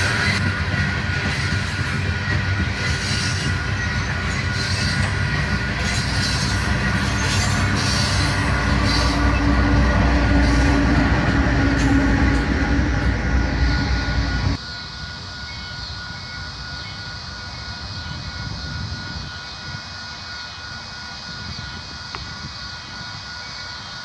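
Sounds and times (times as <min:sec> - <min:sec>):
crossing bell ringing: 0:00.0 - 0:24.0
diesel locomotive engine: 0:00.0 - 0:24.0
distant train approaching: 0:00.0 - 0:24.0
train wheels rumbling on rails: 0:00.0 - 0:24.0.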